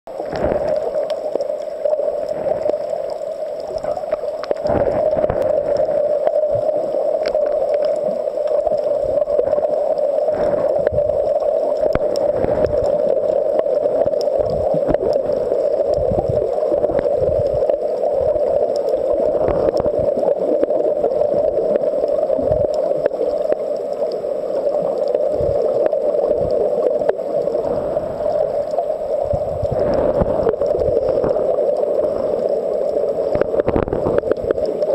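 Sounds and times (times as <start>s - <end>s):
muffled underwater rushing drone: 0.1s - 34.9s.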